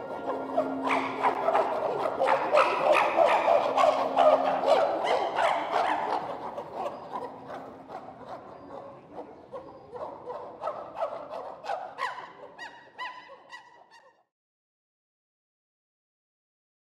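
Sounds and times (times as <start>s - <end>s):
chimpanzees hooting and crying: 0.0s - 14.2s.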